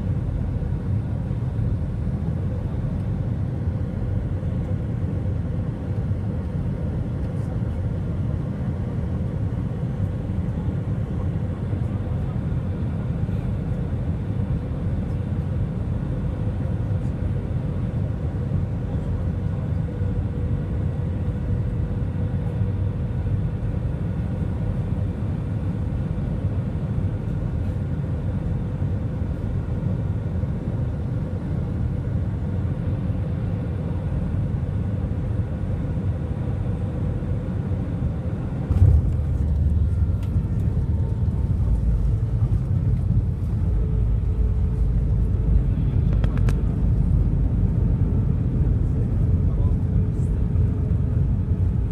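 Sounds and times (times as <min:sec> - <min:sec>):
aircraft cabin engine rumble: 0:00.0 - 0:51.9
faint constant hum: 0:00.0 - 0:51.9.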